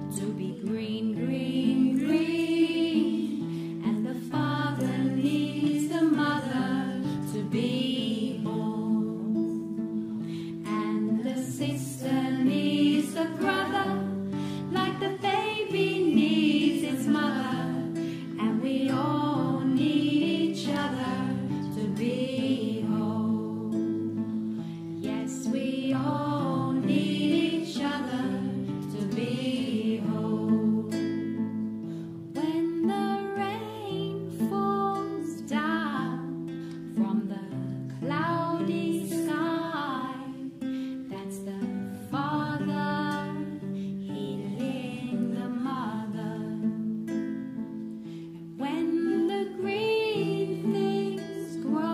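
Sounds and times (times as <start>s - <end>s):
strummed acoustic guitar: 0.0s - 51.9s
voices singing slow melody: 0.0s - 51.9s.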